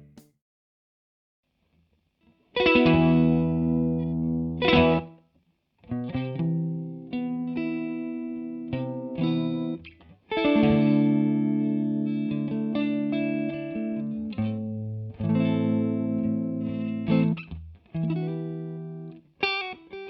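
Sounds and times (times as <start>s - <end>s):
electric guitar chords with chorus: 2.6s - 5.1s, 6.0s - 20.0s.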